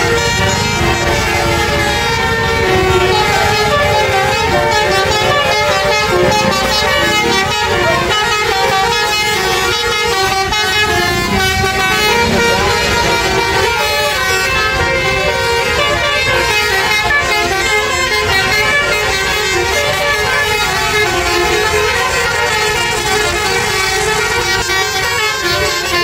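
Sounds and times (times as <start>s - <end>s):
bus musical horn melody: 0.0s - 26.0s.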